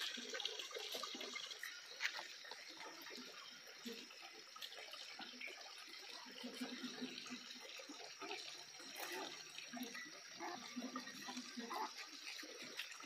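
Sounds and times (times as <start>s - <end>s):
ducks dabbling and slurping: 0.0s - 13.0s.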